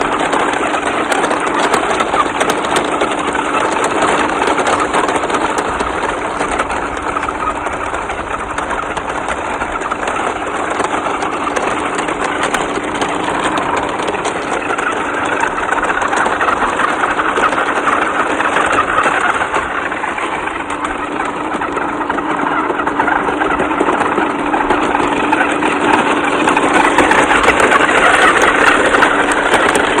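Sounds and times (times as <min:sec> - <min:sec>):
constant hum: 0:00.0 - 0:30.0.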